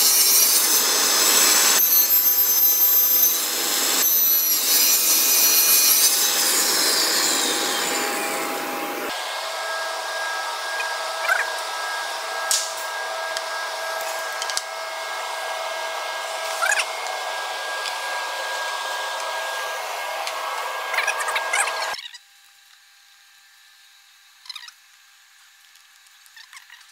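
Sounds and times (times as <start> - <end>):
machine whine with airy rush: 0.0 - 22.0
saw cutting wood panel: 0.0 - 22.0.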